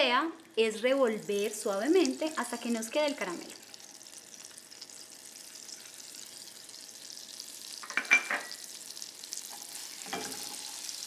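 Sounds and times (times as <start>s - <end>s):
butter and sugar sizzling in pan: 0.0s - 11.0s.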